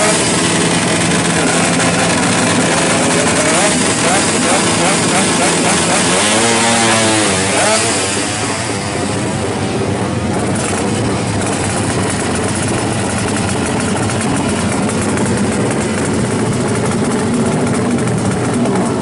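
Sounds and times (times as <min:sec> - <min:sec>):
two-stroke motorcycle engine running: 0:00.0 - 0:19.0.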